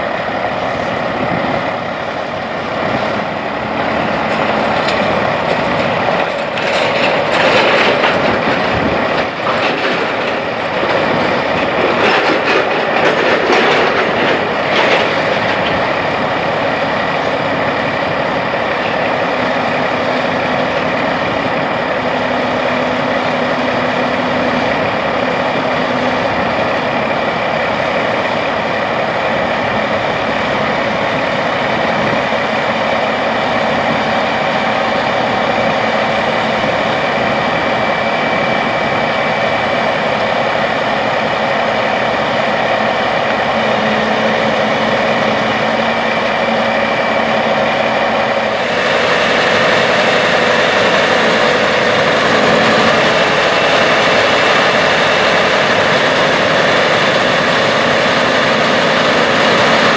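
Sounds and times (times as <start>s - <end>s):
auger unloading grain: 0.0s - 59.9s
tractor engine running: 0.0s - 59.9s.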